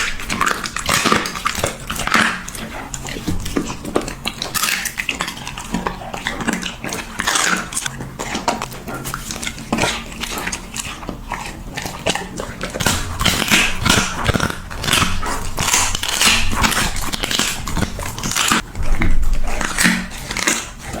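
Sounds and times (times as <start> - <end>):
dog chewing crunchy treats: 0.0 - 21.0.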